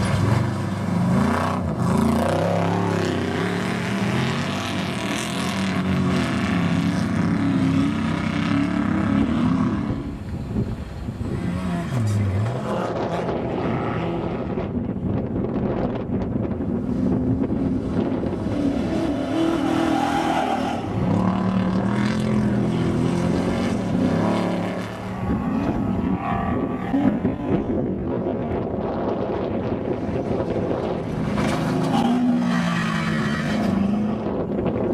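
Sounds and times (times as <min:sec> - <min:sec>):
truck engines revving and passing: 0:00.0 - 0:34.9.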